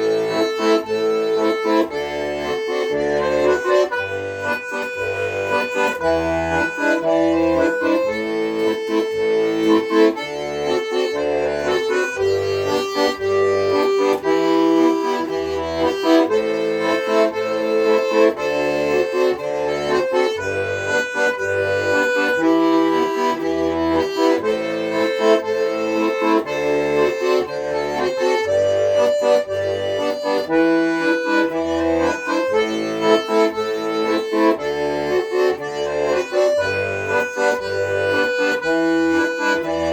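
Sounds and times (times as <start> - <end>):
accordion playing a folk tune: 0.0 - 39.9.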